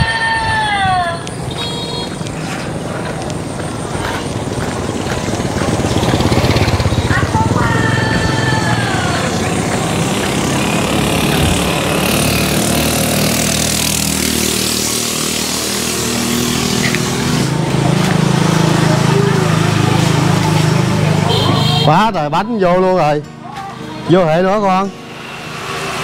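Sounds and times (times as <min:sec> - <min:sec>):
vehicle engine droning: 0:00.6 - 0:22.0.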